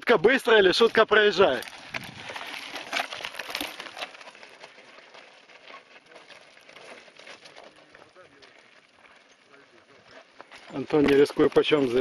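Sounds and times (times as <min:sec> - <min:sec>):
bike tyres crunching on gravel: 0:00.0 - 0:12.0.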